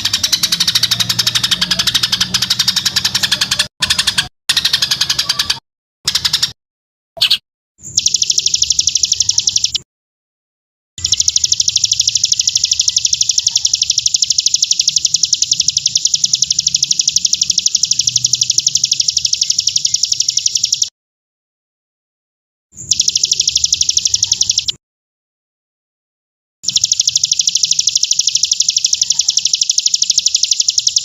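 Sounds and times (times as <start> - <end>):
high-pitched chirping bird trill: 0.0 - 6.6, 7.2 - 9.8, 11.0 - 20.9, 22.8 - 24.8, 26.6 - 31.0.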